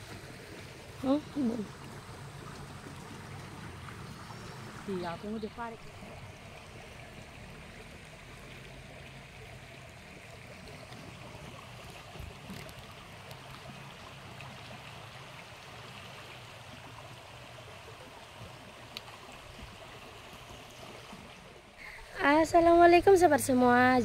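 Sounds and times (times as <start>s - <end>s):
stream flowing over rocks: 0.0s - 24.0s.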